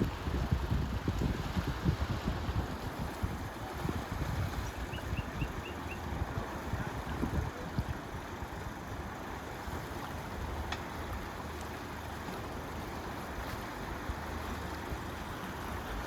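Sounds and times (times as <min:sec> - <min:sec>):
boat engine idling: 0:00.1 - 0:16.0.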